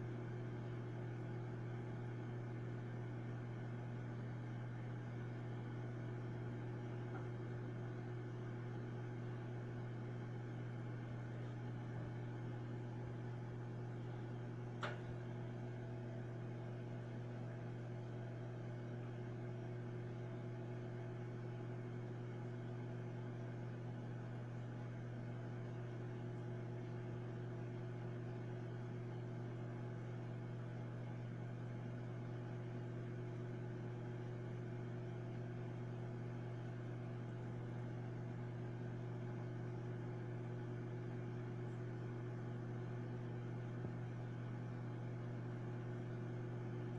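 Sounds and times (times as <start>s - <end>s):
microwave oven humming: 0.0s - 46.9s.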